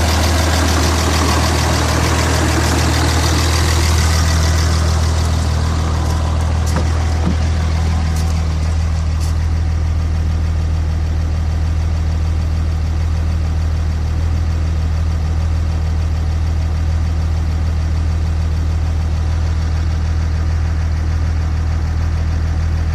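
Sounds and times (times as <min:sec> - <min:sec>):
diesel engine idling roughly: 0:00.0 - 0:22.9.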